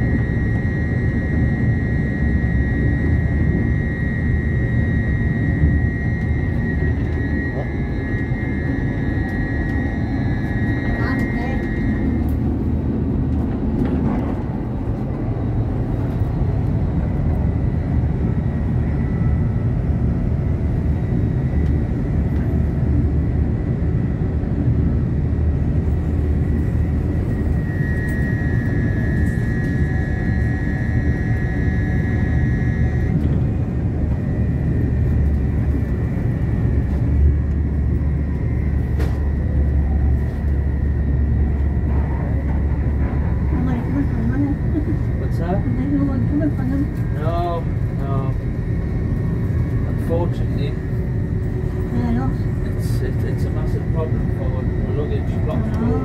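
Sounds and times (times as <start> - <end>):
high steady whine: 0.0 - 56.0
train rumble inside carriage: 0.0 - 56.0.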